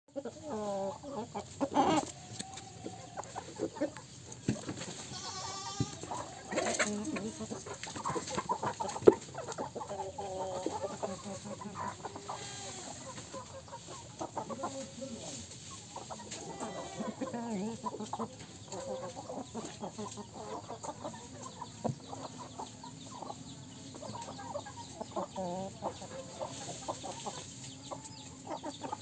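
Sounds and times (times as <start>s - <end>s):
chickens clucking: 0.1s - 29.0s.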